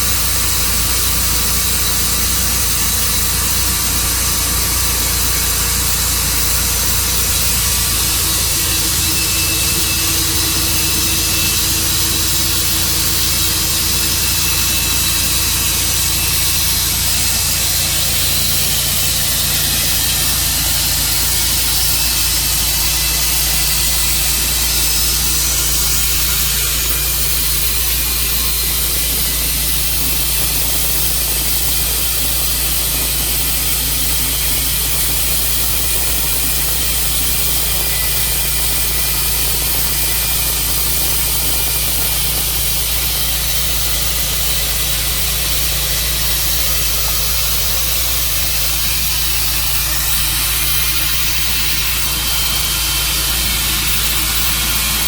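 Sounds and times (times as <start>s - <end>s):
low engine drone: 0.0s - 55.0s
saw hissing: 0.0s - 55.0s.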